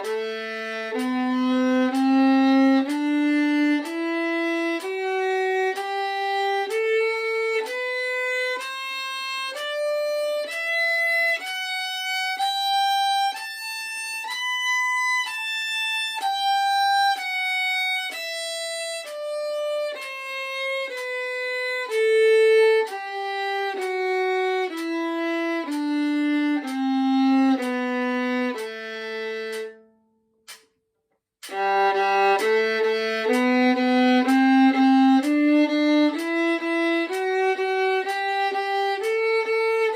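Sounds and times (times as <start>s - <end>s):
solo violin playing scales: 0.0s - 29.8s, 31.4s - 39.9s.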